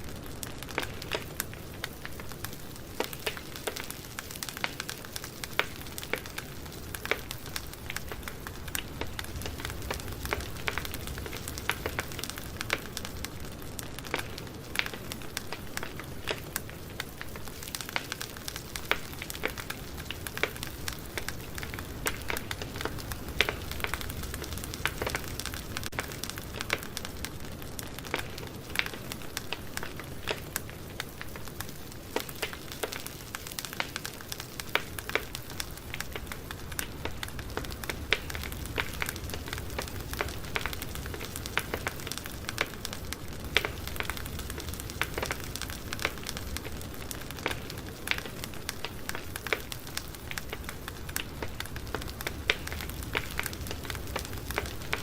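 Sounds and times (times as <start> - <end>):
campfire rumble and hiss: 0.0 - 55.0
wood crackling and popping: 0.0 - 55.0.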